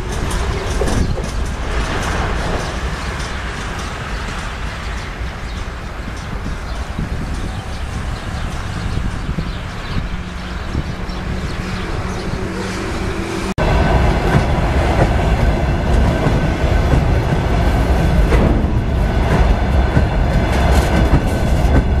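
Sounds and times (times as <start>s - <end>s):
train wheels clacking: 0.0s - 13.0s, 13.7s - 22.0s
train wheels rumbling on rail: 0.0s - 22.0s.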